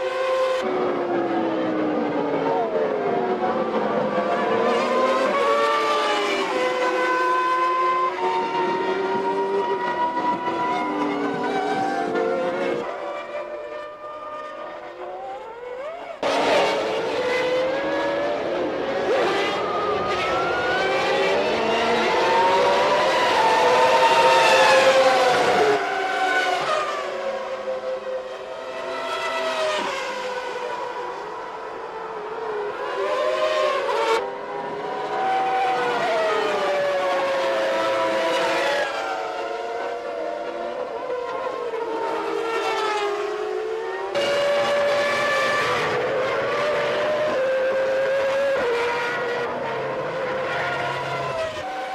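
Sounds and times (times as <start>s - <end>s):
racing car engines at high revs: 0.0s - 51.9s.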